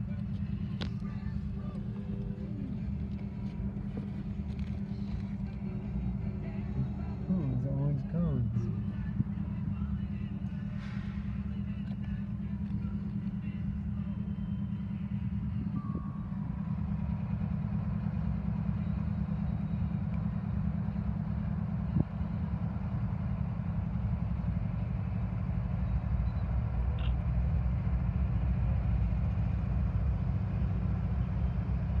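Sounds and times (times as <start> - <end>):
low engine rumble inside car: 0.0 - 32.0.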